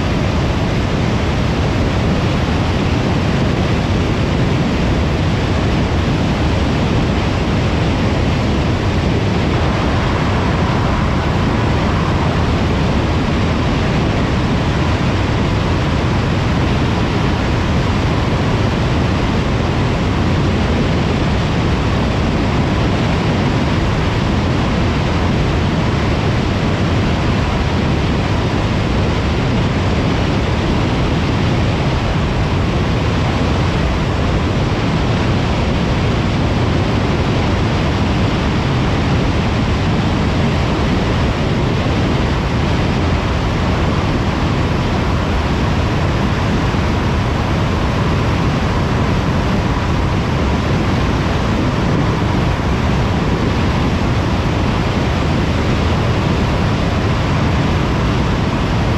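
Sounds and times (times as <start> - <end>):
tyre and wind noise: 0.0 - 58.9.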